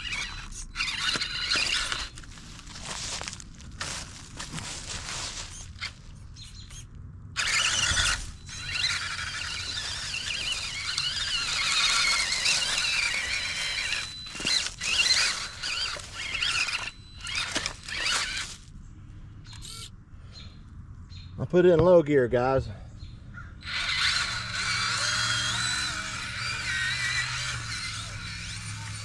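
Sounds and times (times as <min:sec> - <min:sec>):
electric motor whining: 0:00.0 - 0:18.7, 0:23.6 - 0:29.0.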